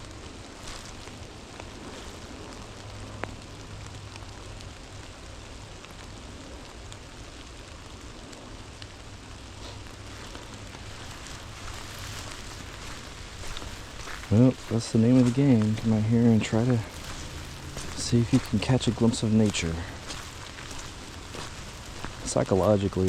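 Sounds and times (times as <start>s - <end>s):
distant highway traffic rumble: 0.0s - 23.0s
light rain pattering: 0.0s - 23.0s.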